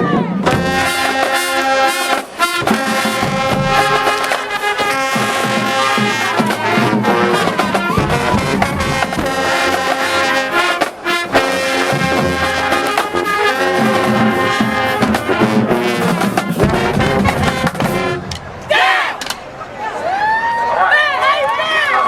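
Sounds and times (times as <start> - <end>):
drums: 0.0 - 19.6
trumpets and trombones: 0.1 - 19.3
marching band playing: 0.1 - 19.4.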